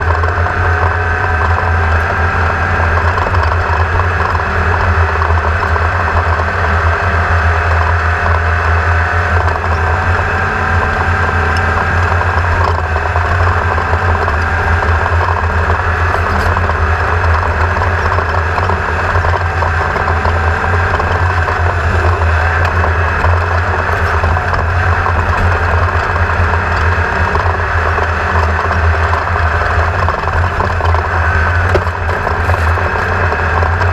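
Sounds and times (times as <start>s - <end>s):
boat motor running: 0.0s - 33.9s.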